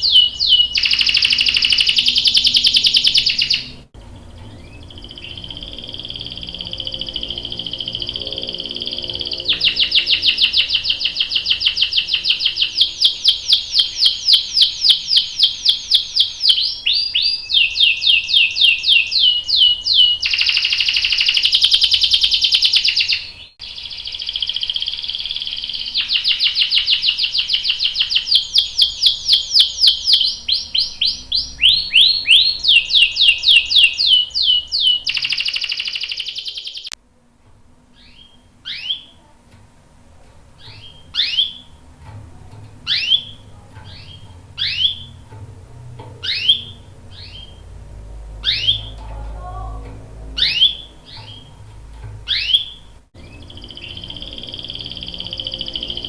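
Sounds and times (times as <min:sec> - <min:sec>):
canary singing: 0:00.0 - 0:37.0, 0:37.9 - 0:56.0.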